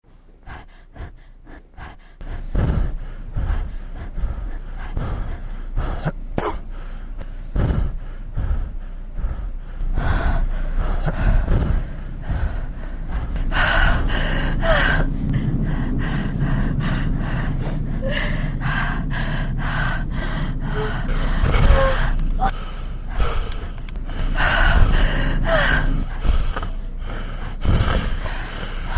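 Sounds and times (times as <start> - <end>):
heavy breathing with gasps: 0.3 - 28.9.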